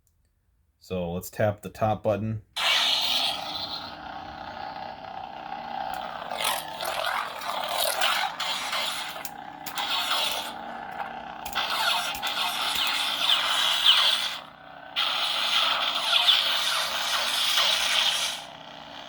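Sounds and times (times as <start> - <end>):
lightsaber hum: 2.6 - 19.0.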